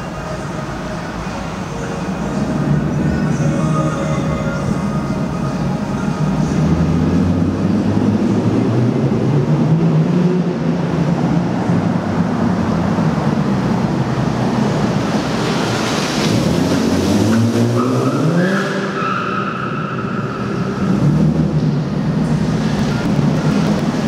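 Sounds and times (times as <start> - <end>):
car engine revving: 2.1 - 24.0.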